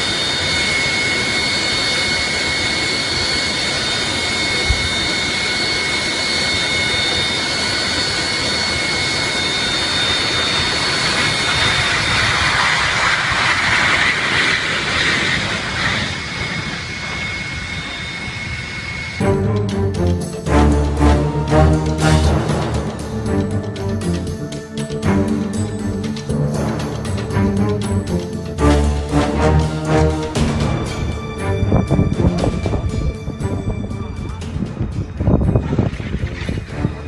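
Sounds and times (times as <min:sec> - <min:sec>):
jet engines whining: 0:00.0 - 0:37.0.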